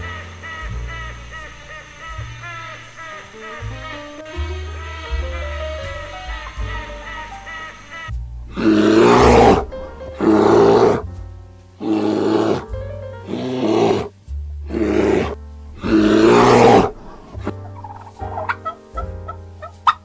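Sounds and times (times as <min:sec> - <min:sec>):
bear calling: 0:00.0 - 0:11.1, 0:11.8 - 0:14.1, 0:14.7 - 0:20.0
background music: 0:00.0 - 0:20.0.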